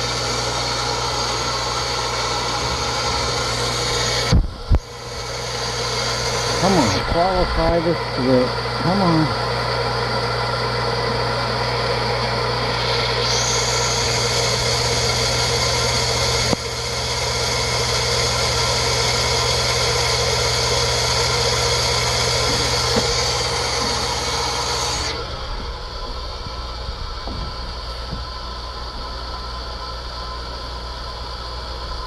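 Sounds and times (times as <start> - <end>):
water pump motor humming: 0.0 - 32.0.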